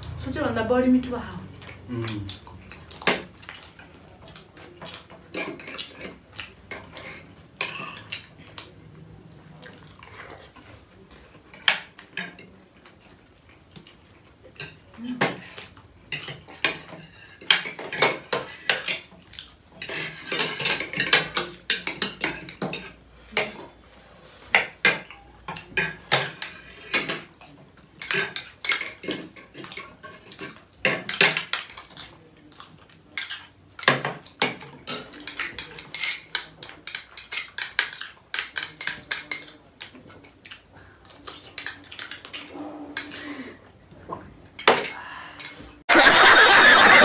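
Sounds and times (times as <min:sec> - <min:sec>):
cutlery clinking on plates: 0:02.7 - 0:08.8, 0:11.4 - 0:13.2, 0:13.8 - 0:23.8, 0:24.5 - 0:43.3, 0:44.1 - 0:45.6.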